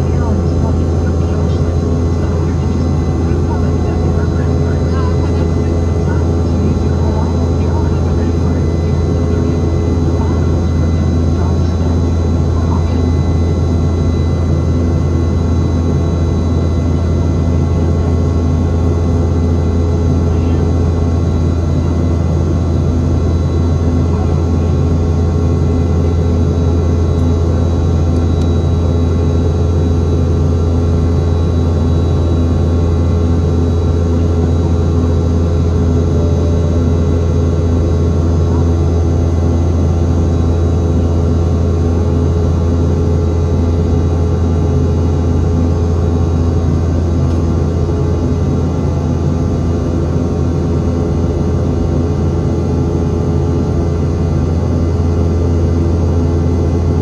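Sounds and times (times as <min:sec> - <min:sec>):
aircraft cabin drone: 0:00.0 - 0:57.0.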